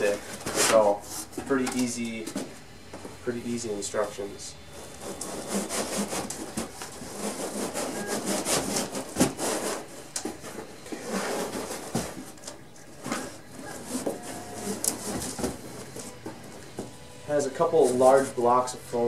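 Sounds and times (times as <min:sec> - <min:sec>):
foam and cardboard scraping: 0:00.0 - 0:02.6, 0:03.4 - 0:19.0.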